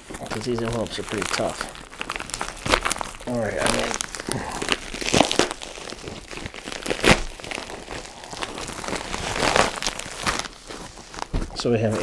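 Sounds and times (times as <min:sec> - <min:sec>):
plastic mailer crinkling and tearing: 0:00.0 - 0:12.0.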